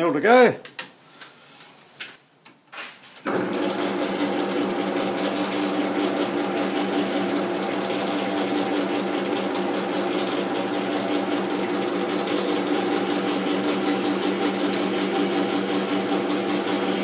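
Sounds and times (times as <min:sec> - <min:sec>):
metal lathe running: 0:03.3 - 0:17.0.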